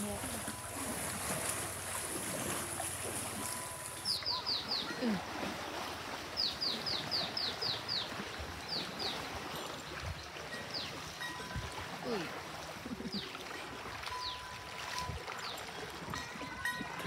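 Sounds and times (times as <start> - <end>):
river water: 0.0 - 17.0.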